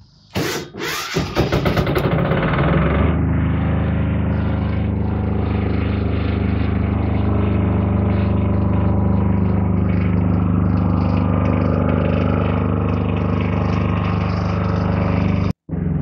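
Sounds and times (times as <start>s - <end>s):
diesel generator engine running: 0.0s - 16.0s.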